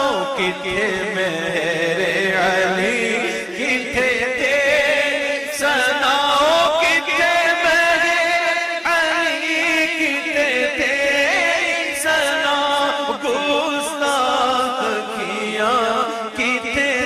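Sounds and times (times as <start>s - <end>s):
person singing devotional chant: 0.0s - 17.0s.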